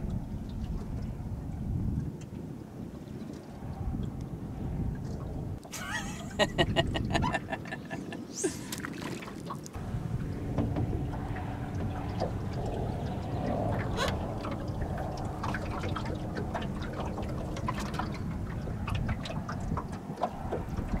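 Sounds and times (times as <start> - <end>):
waves lapping against boat hull: 0.0 - 21.0
wind rumble on microphone: 0.0 - 21.0.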